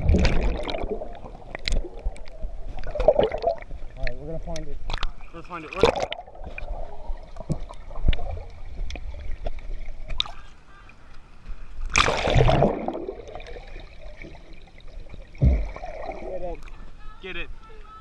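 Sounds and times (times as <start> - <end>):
pool water sloshing and gurgling: 0.0 - 4.1, 4.9 - 10.5, 11.8 - 16.7
water splashing: 0.0 - 4.2, 4.8 - 17.0.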